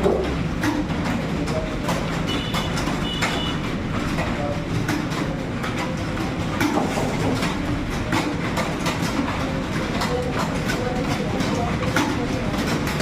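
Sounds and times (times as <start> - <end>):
keyboards typing clatter: 0.0 - 13.0.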